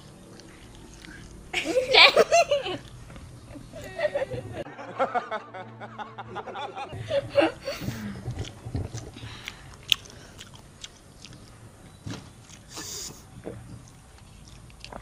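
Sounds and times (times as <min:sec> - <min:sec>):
people chewing food: 0:00.0 - 0:04.6, 0:07.1 - 0:15.0.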